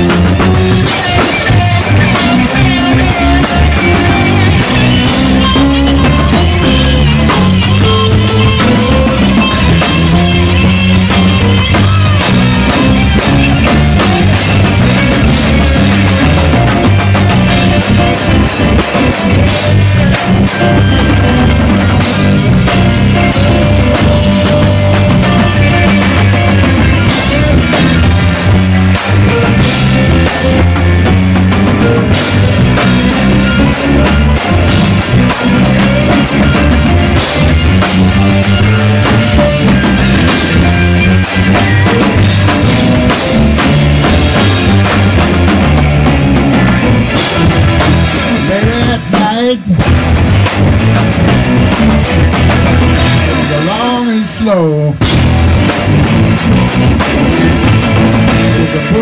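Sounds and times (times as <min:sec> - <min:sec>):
bass guitar: 0:00.0 - 0:59.0
drum kit: 0:00.0 - 0:59.0
electric guitar: 0:00.0 - 0:59.0
keyboard: 0:00.0 - 0:59.0.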